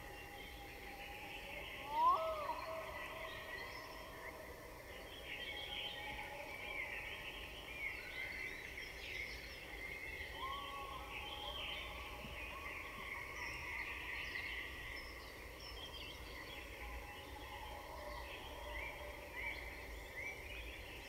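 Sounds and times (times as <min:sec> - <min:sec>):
small birds chirping and singing: 0:00.0 - 0:21.0.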